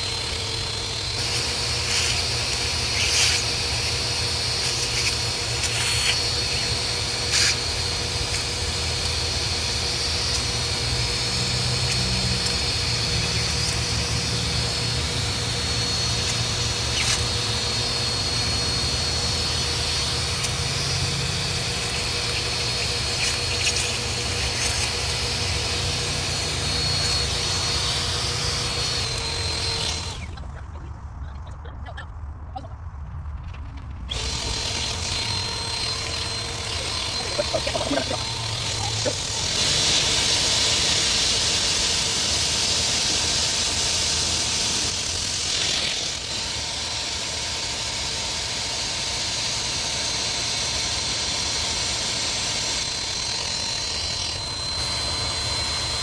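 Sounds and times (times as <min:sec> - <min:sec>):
vacuum cleaner whining: 0:00.0 - 0:30.5, 0:34.1 - 0:56.0.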